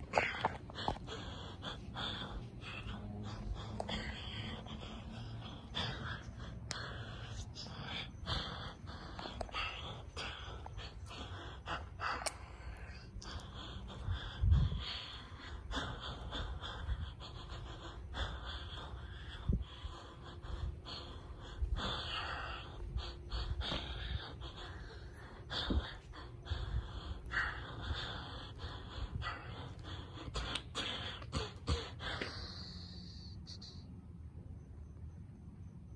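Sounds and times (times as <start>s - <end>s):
breathing close to microphone: 0.0s - 33.9s.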